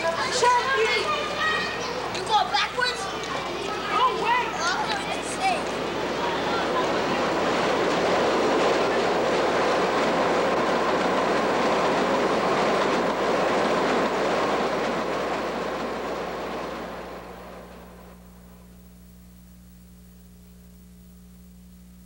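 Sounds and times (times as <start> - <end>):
train running on elevated track: 0.0 - 18.2.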